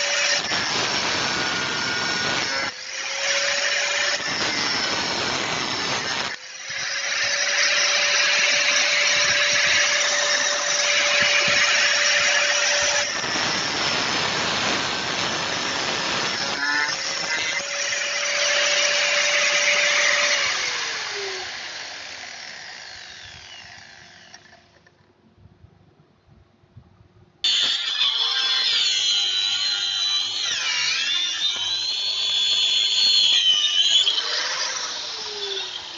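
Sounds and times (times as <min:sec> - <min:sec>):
angle grinder motor whine: 0:00.0 - 0:24.9, 0:27.5 - 0:35.9.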